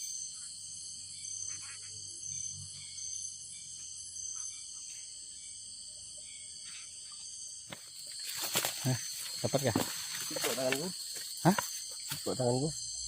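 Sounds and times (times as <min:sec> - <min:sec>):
faint chirps: 0:00.0 - 0:13.0
shrill insect chorus: 0:00.0 - 0:13.0.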